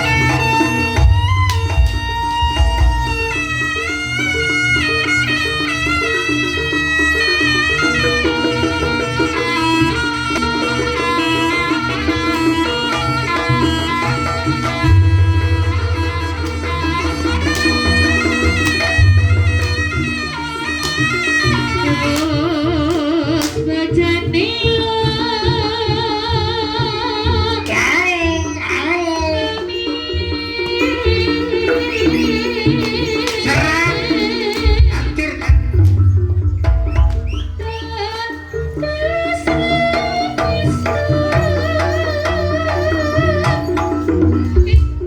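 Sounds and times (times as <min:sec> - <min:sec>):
continuous drumming: 0:00.0 - 0:45.0
reedy wind melody: 0:00.0 - 0:45.0.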